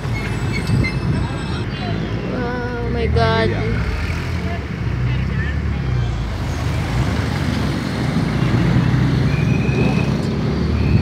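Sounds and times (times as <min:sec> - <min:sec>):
motor vehicle rumble: 0:00.0 - 0:11.0
road noise: 0:00.0 - 0:11.0.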